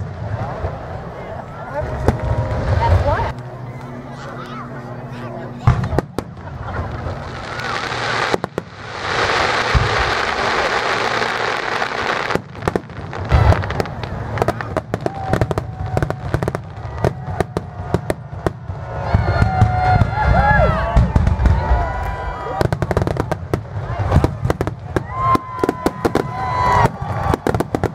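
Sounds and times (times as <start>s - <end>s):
fireworks bangs and booms: 0.0s - 3.3s, 5.6s - 27.9s.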